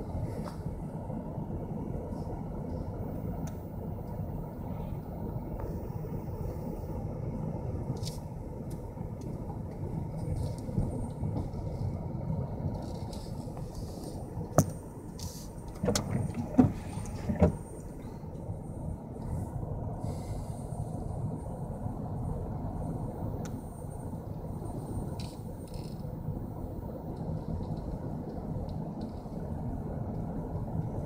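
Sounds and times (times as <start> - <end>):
vehicle motor rumbling: 0.0 - 31.0.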